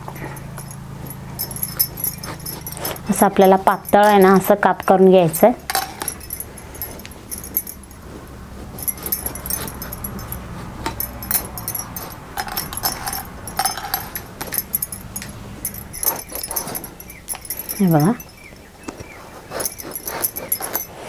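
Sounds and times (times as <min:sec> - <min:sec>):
glass bangles jingling: 0:00.0 - 0:21.0.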